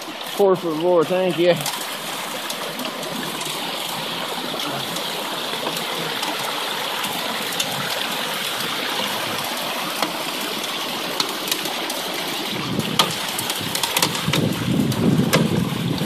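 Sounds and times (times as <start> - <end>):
water rushing through sluice box: 0.0 - 16.0.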